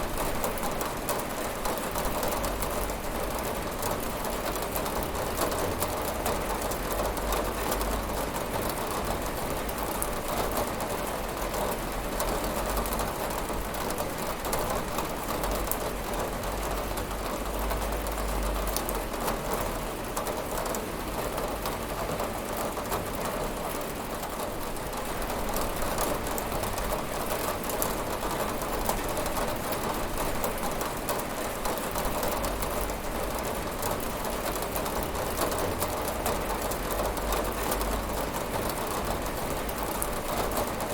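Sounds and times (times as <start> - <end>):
rain on window glass: 0.0 - 40.9.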